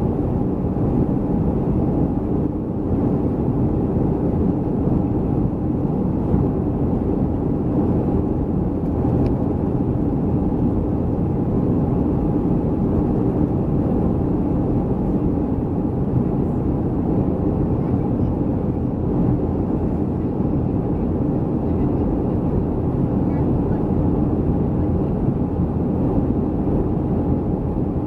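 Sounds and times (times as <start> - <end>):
jet engine cabin rumble: 0.0 - 28.0.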